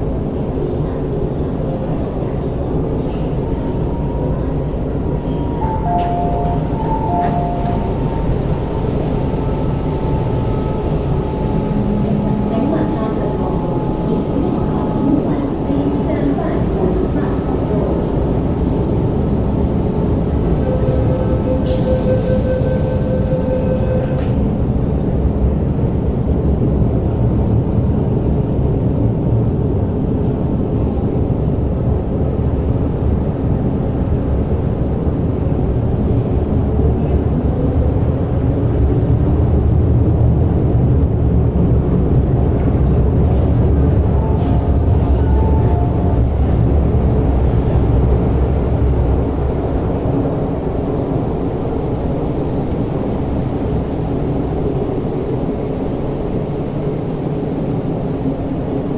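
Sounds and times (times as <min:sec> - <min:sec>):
metro train rumbling: 0:00.0 - 0:58.9.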